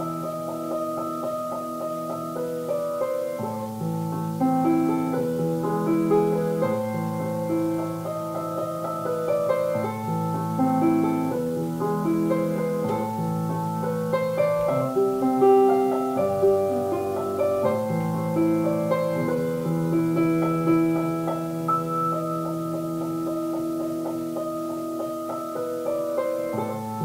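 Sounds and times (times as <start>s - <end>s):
slow piano music: 0.0s - 27.0s.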